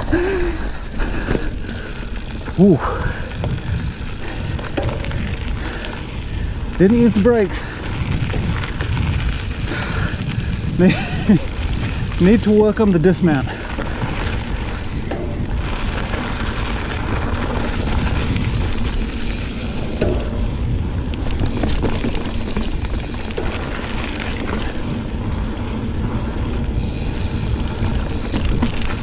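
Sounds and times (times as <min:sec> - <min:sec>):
wind on microphone: 0:00.0 - 0:12.7, 0:13.4 - 0:29.0
bike clicks and rattles: 0:00.0 - 0:29.0
bike tyres on dirt: 0:00.0 - 0:29.0.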